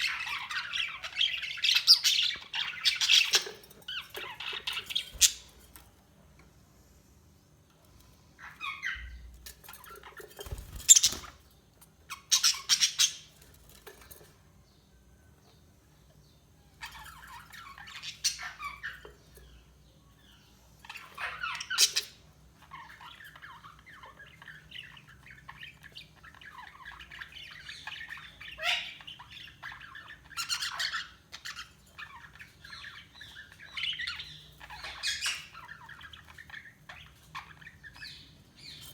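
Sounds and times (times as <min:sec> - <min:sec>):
budgies chirping and squawking: 0:00.0 - 0:05.8, 0:08.0 - 0:14.1, 0:16.8 - 0:19.5, 0:20.2 - 0:38.9.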